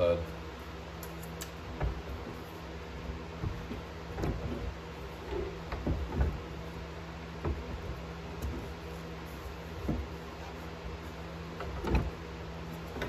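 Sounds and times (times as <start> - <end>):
steady low hum: 0.0 - 13.0
metal clunking and scraping rollers: 1.7 - 13.0.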